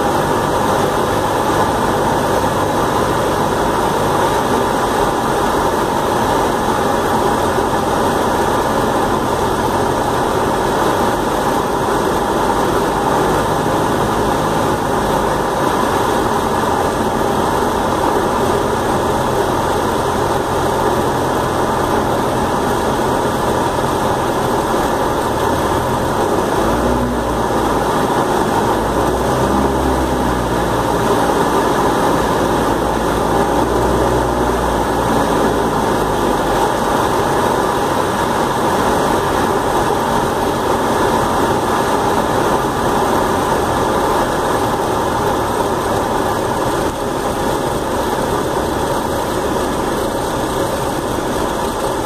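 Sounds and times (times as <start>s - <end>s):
airplane engine and propeller: 0.0s - 52.0s.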